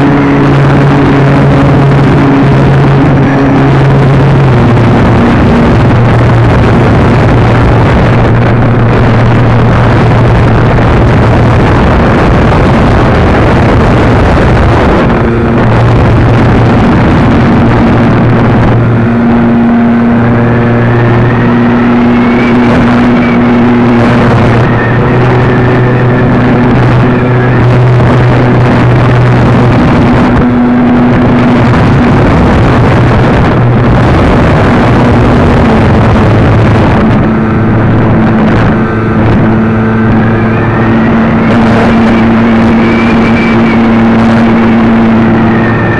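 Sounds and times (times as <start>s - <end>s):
wind rush on microphone: 0.0s - 45.9s.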